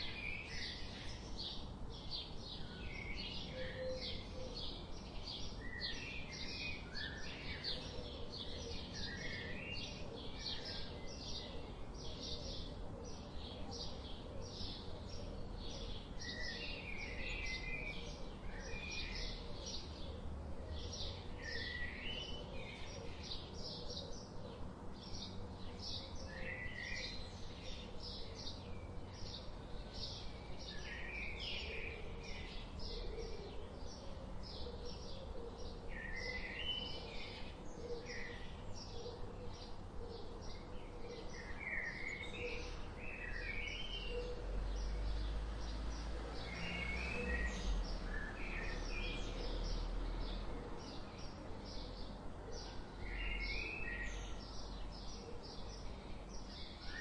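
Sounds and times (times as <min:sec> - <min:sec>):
outdoor background hum: 0:00.0 - 0:57.0.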